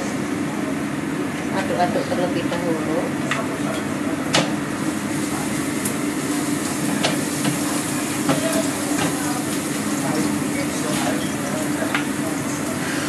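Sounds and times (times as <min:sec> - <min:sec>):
gas stove hum and hiss: 0:00.0 - 0:13.0.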